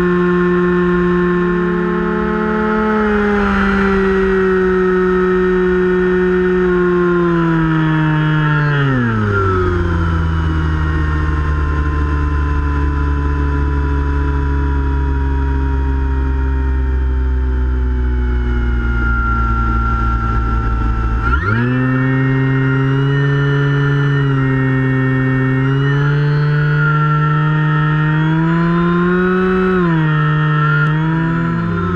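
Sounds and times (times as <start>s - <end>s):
electric motor and propeller whine: 0.0s - 31.9s.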